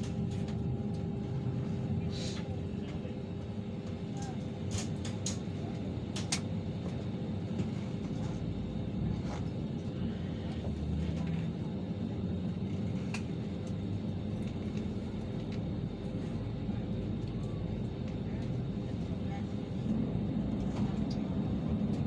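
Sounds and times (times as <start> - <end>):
aircraft cabin drone: 0.0 - 22.0.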